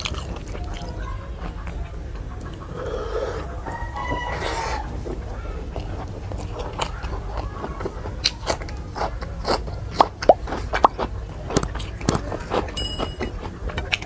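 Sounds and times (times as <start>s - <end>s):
wet chewing and mouth smacks: 0.0s - 2.7s, 4.3s - 14.0s.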